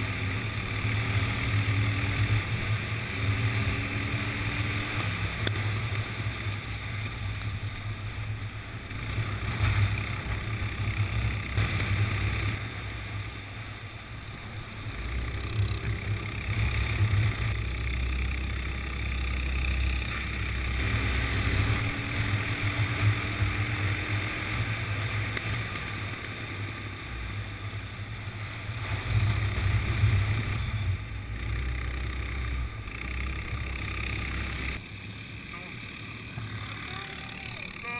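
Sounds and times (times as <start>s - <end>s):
go-kart engine under throttle: 0.0s - 37.9s
steady rushing hiss: 0.0s - 37.9s.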